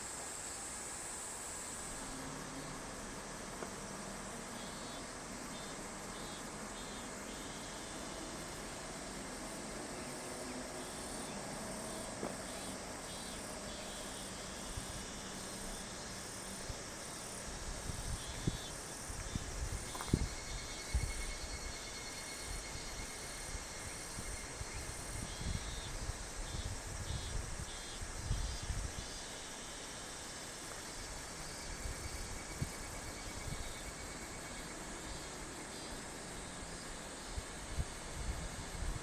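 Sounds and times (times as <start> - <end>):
insects trilling: 0.0 - 39.0
steady hiss: 0.0 - 39.0.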